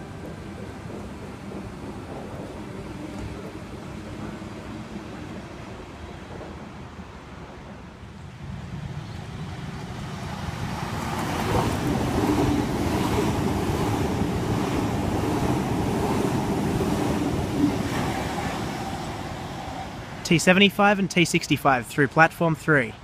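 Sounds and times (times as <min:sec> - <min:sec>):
train wheels rushing on rails: 0:00.0 - 0:20.4.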